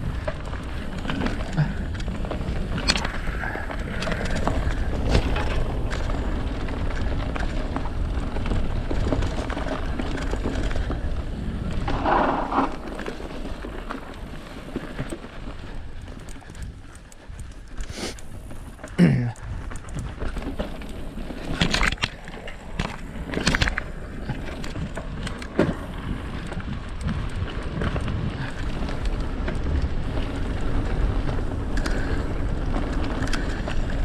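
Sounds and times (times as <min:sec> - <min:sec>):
bike rattling over bumps: 0:00.0 - 0:34.0
tyres on dirt: 0:00.0 - 0:34.0
wind rumbling on microphone: 0:00.0 - 0:34.0.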